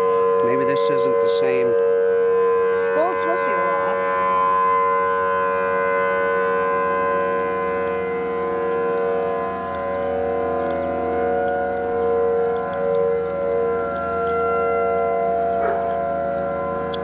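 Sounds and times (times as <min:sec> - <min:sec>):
distant warning sirens: 0:00.0 - 0:17.0.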